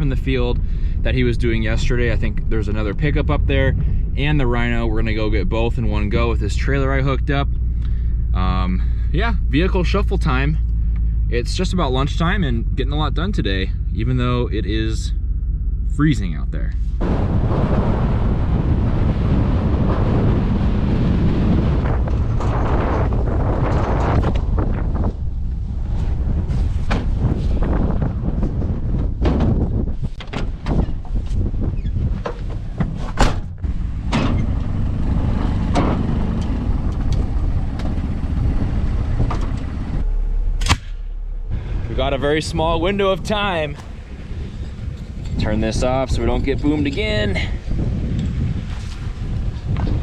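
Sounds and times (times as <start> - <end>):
vehicle engine running: 0.0 - 30.1, 33.4 - 50.0
wind buffeting microphone: 0.0 - 50.0.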